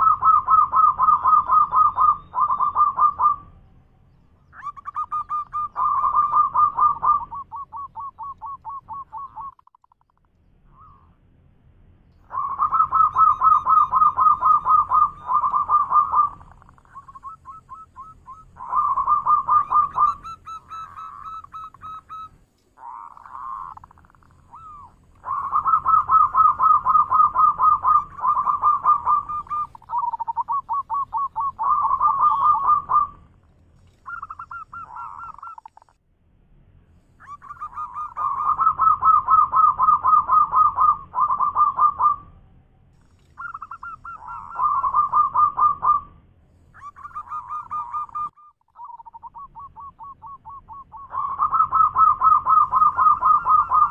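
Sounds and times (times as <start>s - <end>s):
dove cooing: 0.0s - 3.7s, 4.5s - 10.0s, 12.2s - 36.0s, 37.2s - 42.3s, 43.0s - 53.9s.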